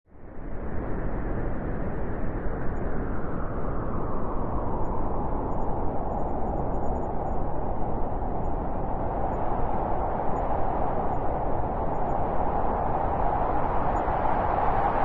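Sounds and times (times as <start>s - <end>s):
howling wind: 0.1s - 15.0s.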